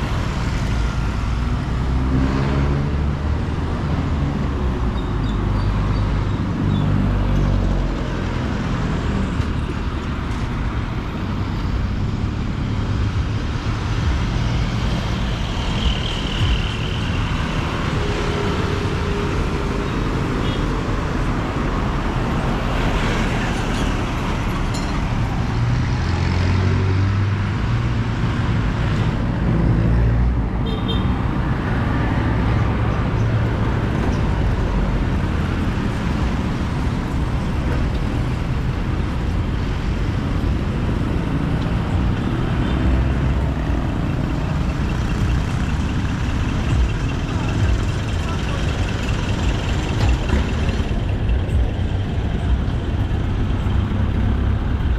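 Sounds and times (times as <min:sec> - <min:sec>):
road traffic: 0:00.0 - 0:54.9.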